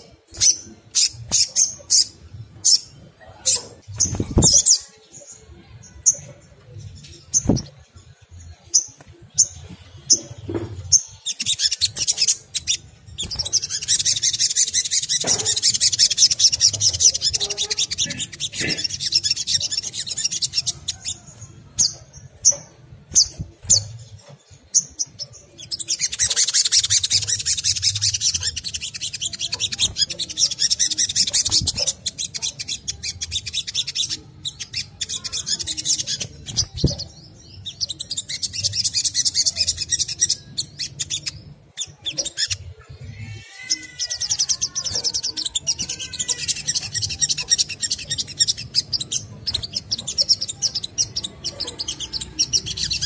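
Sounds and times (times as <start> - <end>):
bird chirping and twittering: 0.0 - 53.0.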